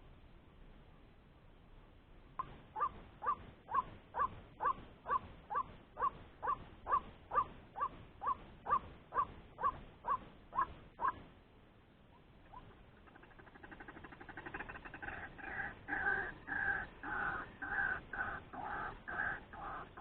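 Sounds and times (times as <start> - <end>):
waterhen croaking call: 2.4 - 11.2, 12.4 - 20.0.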